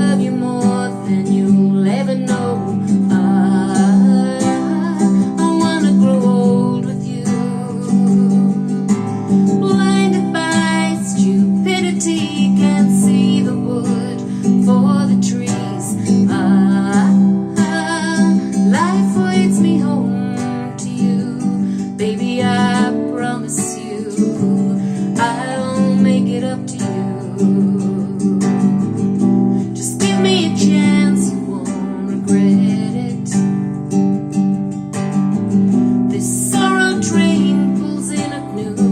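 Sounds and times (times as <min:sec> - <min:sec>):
song with strummed acoustic guitar: 0:00.0 - 0:38.9.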